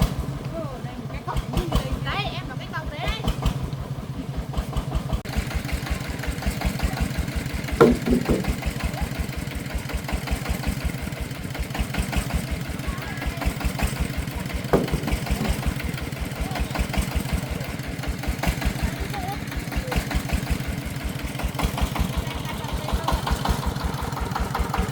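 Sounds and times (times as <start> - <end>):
diesel engine thumping: 0.0 - 24.9
sharp engine knocks: 4.5 - 24.9.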